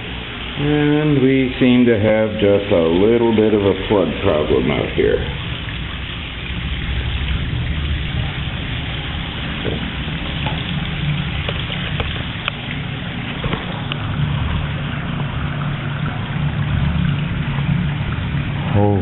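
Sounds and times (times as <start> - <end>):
floodwater rushing: 0.0 - 19.0
water drips and splashes: 0.0 - 19.0.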